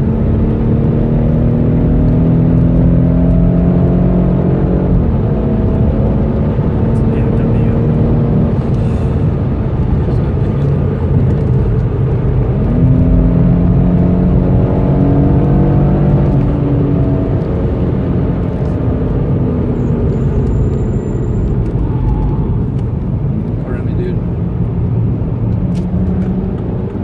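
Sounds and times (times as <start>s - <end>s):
car engine pulling hard: 0.0s - 27.0s
road and tyre rumble: 0.0s - 27.0s.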